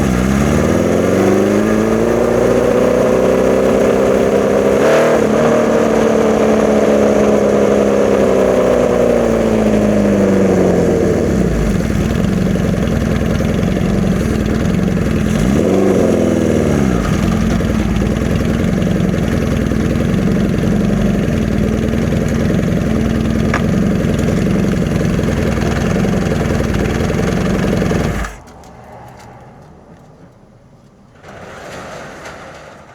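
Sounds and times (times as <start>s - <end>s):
motorcycle engine idling: 0.0s - 28.5s.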